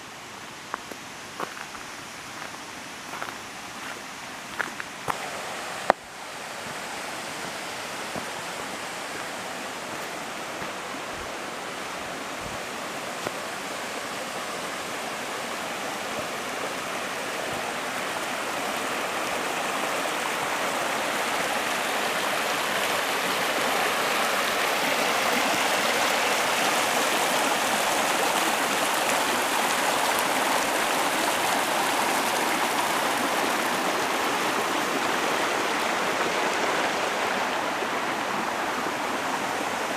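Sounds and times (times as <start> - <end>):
creek running over stones: 0.0 - 39.9.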